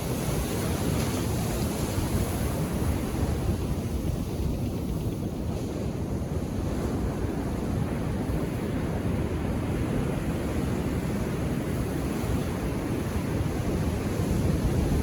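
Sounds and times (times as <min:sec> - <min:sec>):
ocean waves on a beach: 0:00.0 - 0:15.0
wind on microphone: 0:00.0 - 0:15.0.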